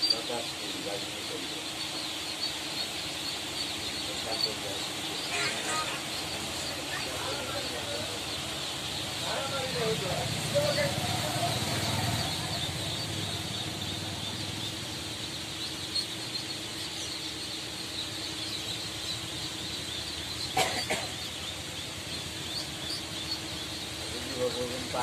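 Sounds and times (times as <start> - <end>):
ducklings and chicks peeping: 0.0 - 25.0.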